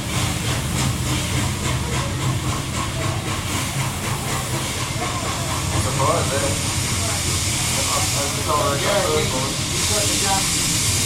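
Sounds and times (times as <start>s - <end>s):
low rumble of moving train: 0.0s - 11.0s
steam locomotive exhaust chuff: 0.0s - 11.0s.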